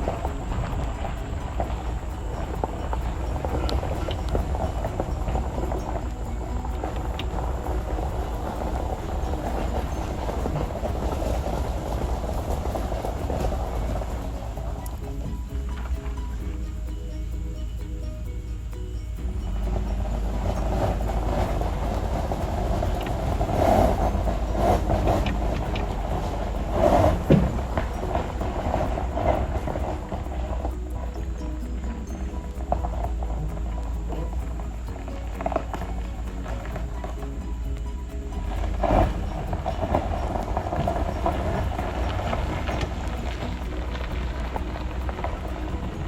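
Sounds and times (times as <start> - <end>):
trailer rattling and clatter: 0.0 - 46.0
truck engine and road noise: 0.0 - 46.0.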